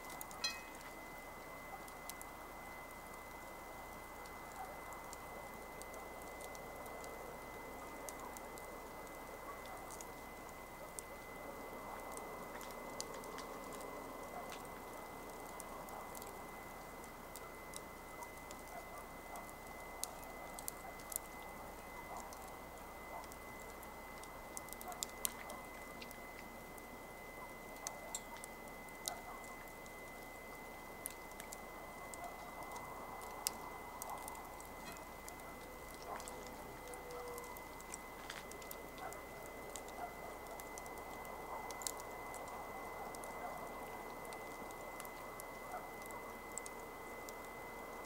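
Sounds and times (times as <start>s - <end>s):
campfire crackling: 0.0s - 48.0s.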